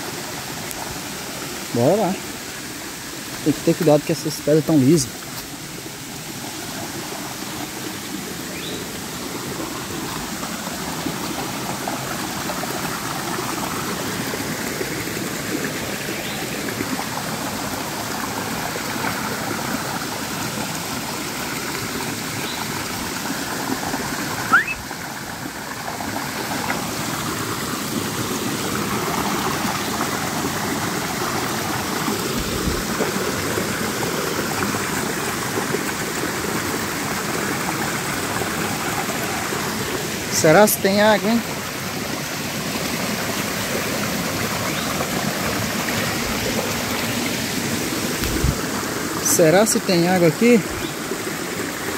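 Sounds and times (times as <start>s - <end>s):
creek rushing over boulders: 0.0s - 51.9s.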